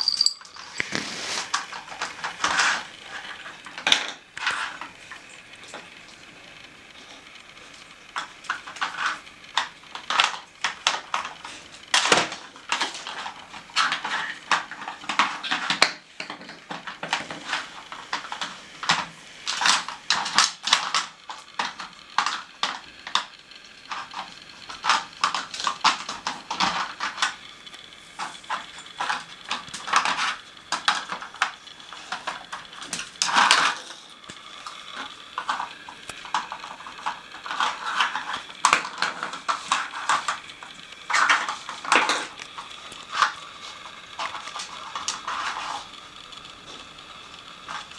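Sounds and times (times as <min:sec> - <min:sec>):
plastic cones clattering: 0:00.0 - 0:06.0, 0:08.1 - 0:23.3, 0:23.9 - 0:27.4, 0:28.2 - 0:46.0.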